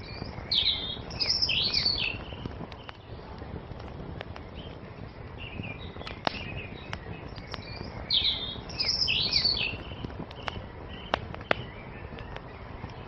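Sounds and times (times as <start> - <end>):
crackling campfire: 0.0 - 13.0
songbirds chirping and singing: 0.0 - 13.0.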